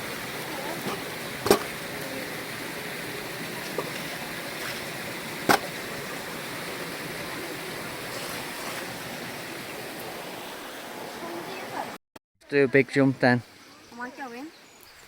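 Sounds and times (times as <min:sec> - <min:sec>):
waterfall and stream rushing: 0:00.0 - 0:14.1.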